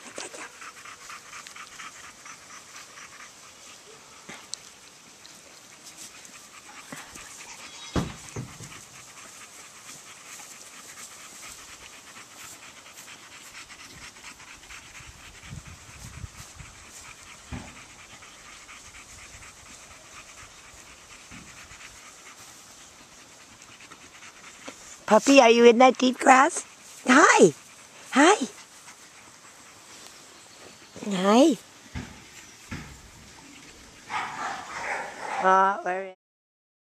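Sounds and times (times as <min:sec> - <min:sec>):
puppy panting: 0:00.0 - 0:35.7.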